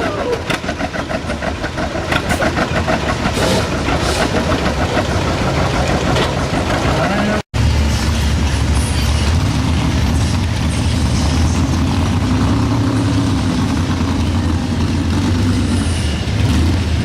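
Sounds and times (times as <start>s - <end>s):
tractor engine running loud: 0.0s - 17.0s.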